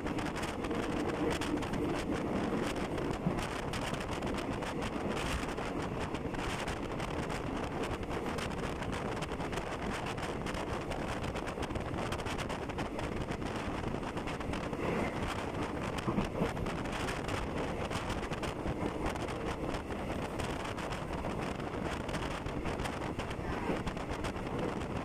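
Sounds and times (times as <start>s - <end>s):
train running noise: 0.0s - 25.0s
wind rushing over microphone: 0.0s - 25.0s.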